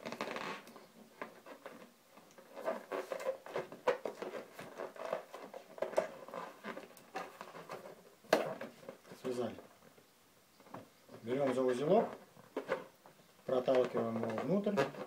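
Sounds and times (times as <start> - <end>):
balloons squeaking and rubbing: 0.0 - 9.6, 10.8 - 15.0.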